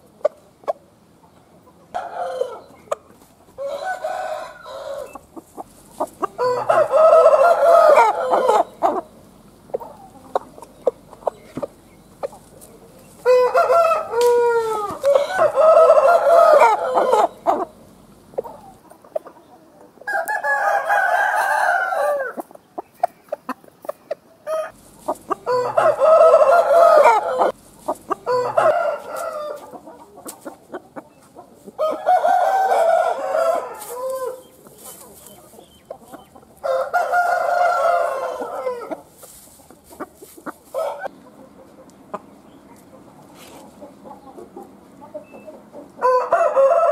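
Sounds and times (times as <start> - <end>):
roosters crowing: 1.9 - 22.6, 24.4 - 46.9.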